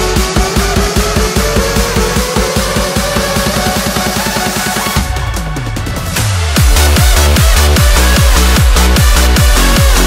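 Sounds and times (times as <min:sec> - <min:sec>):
electronic dance music: 0:00.0 - 0:10.0
heavy kick-drum beat: 0:00.0 - 0:10.0.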